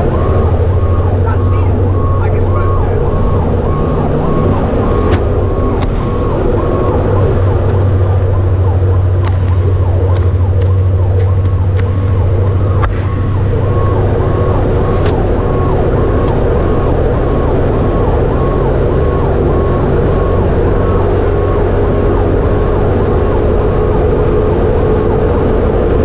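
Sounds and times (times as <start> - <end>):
electronic siren cycling: 0.0 - 26.0
truck engine drone: 0.0 - 26.0.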